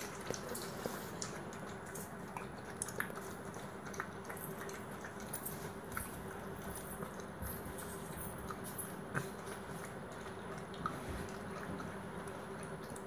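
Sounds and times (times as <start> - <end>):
puppy lapping and chewing food: 0.0 - 13.0.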